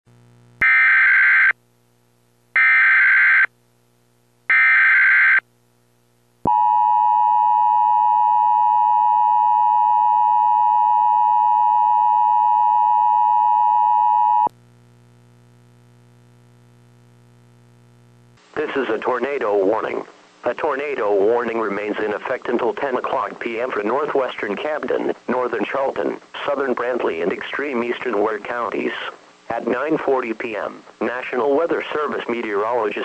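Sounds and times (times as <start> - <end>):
faint low hum: 0.1 - 0.6, 5.4 - 33.0.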